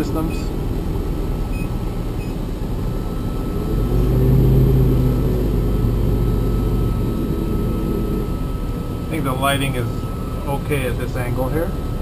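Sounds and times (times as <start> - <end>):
truck diesel engine: 0.0 - 12.0.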